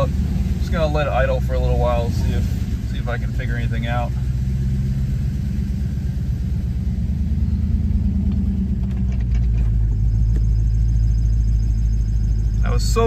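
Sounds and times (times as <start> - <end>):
car engine idling unevenly: 0.0 - 13.0
engine backfiring: 0.0 - 13.0.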